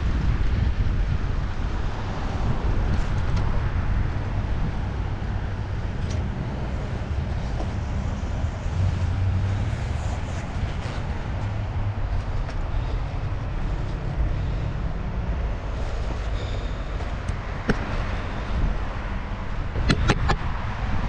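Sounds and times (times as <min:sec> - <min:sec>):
bicycle road noise: 0:00.0 - 0:21.0
wind rumble on microphone: 0:00.0 - 0:21.0.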